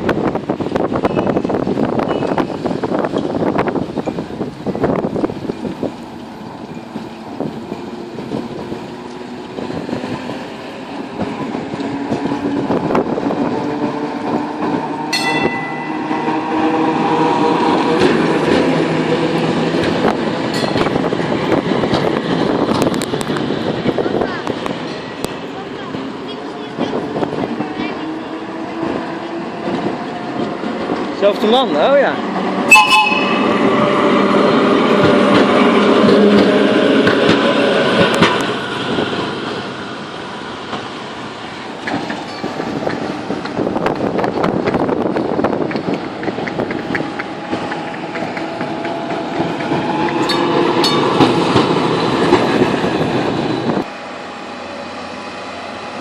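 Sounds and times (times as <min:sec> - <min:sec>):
tram wheels rumbling: 0:00.0 - 0:56.0.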